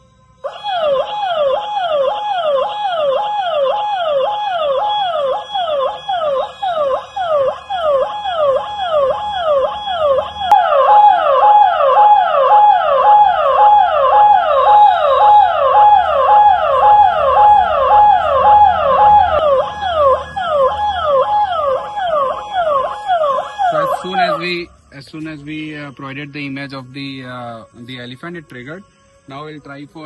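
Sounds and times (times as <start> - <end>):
electronic alarm siren wailing: 0.0 - 24.9.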